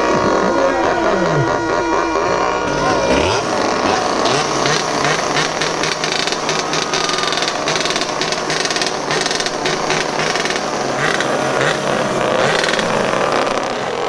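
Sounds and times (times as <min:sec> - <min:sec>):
small petrol engines revving: 0:00.0 - 0:14.0.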